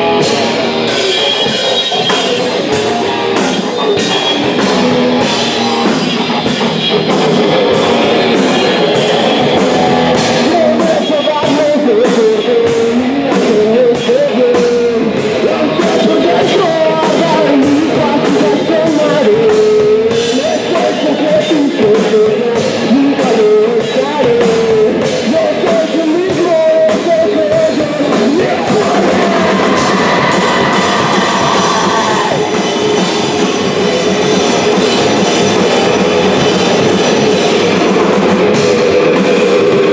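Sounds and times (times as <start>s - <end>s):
distorted electric guitar: 0.0s - 39.9s
drum kit and cymbal hits: 0.0s - 39.9s
electric bass: 0.0s - 39.9s.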